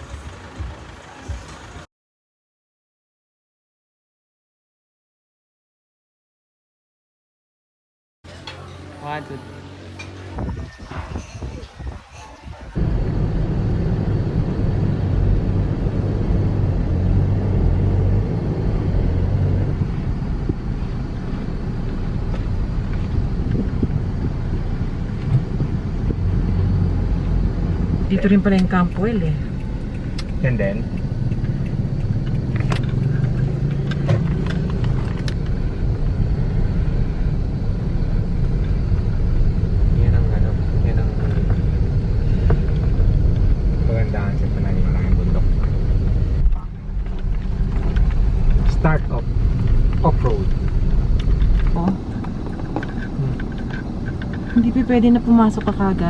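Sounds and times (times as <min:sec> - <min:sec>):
car engine drone: 0:00.0 - 0:01.9, 0:08.3 - 0:56.0
road rumble: 0:00.0 - 0:01.9, 0:08.2 - 0:56.0.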